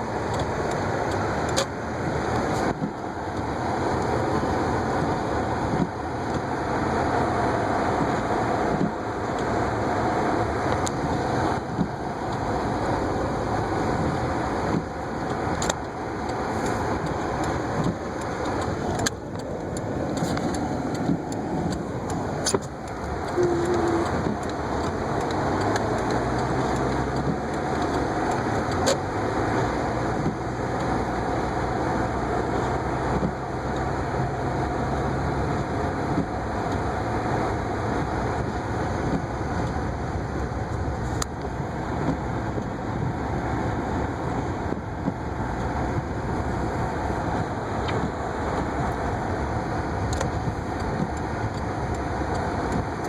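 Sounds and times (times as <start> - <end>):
car engine and tyres: 0.0 - 53.0.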